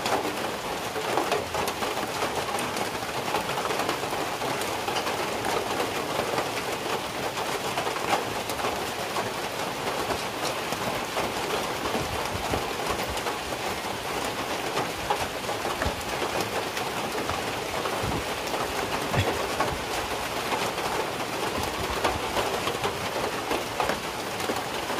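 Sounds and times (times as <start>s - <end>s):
drops dripping off roof edge: 0.0s - 24.9s
steady rain falling: 0.0s - 24.9s.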